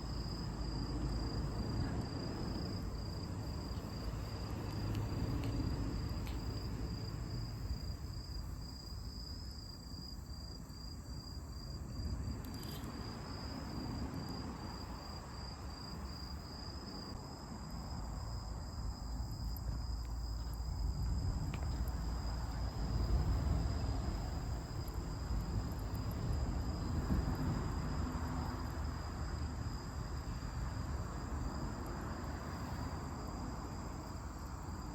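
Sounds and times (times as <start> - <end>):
insects trilling: 0.0 - 34.9.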